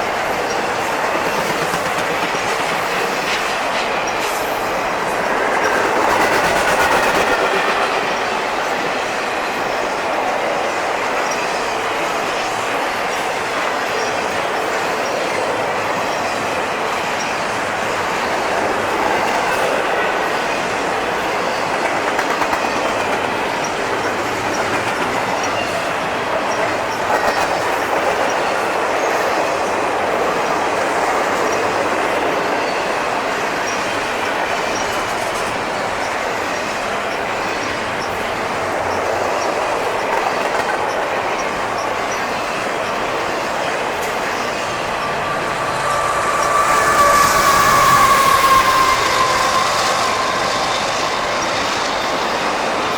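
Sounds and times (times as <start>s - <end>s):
freight train rolling past: 0.0s - 52.9s.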